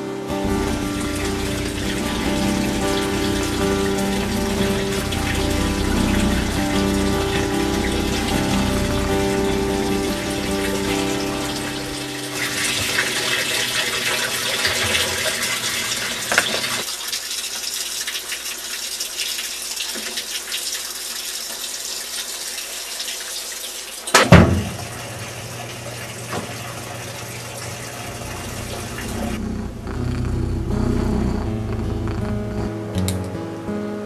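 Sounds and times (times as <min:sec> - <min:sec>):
washing machine filling with water: 0:00.0 - 0:29.4.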